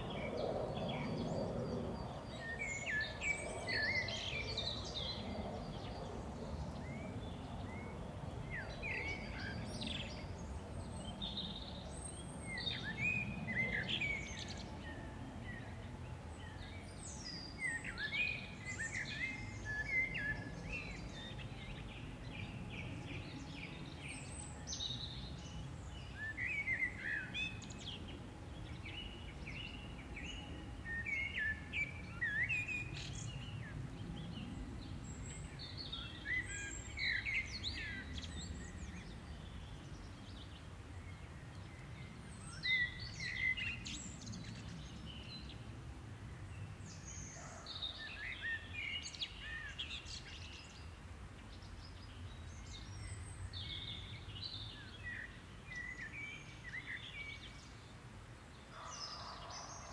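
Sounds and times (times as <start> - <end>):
low outdoor background noise: 0.0 - 59.9
songbirds singing: 0.0 - 59.9.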